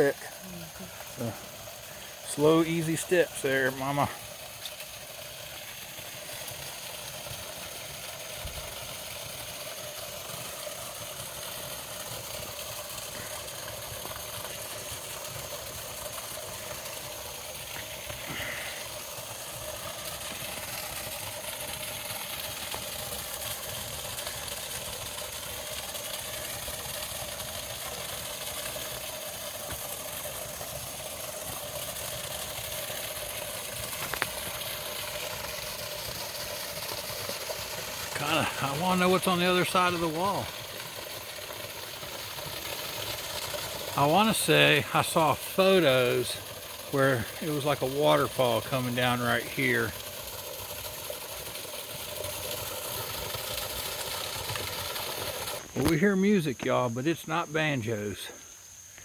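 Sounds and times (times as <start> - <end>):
creek water rushing over dam: 0.0 - 57.9.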